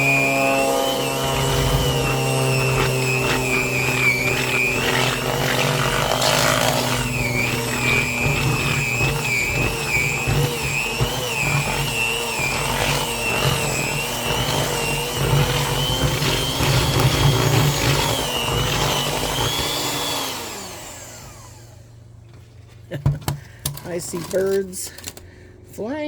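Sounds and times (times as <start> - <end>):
electric mixer running: 0.0 - 22.0.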